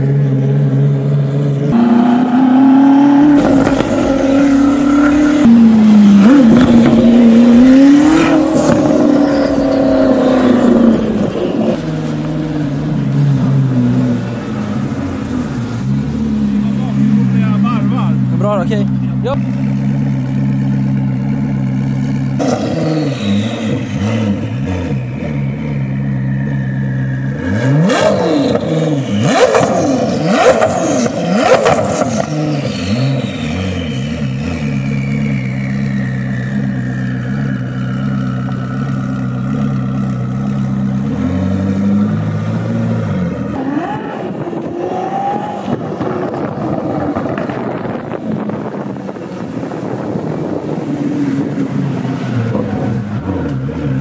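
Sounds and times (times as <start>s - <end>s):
car driving off: 0.0s - 54.0s
car engine idling and revving: 0.0s - 54.0s.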